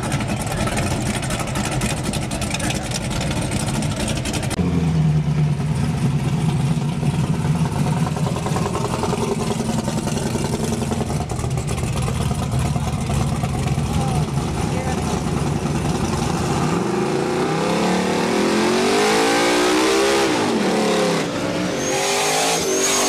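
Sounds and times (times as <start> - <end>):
car engines running: 0.0 - 23.0.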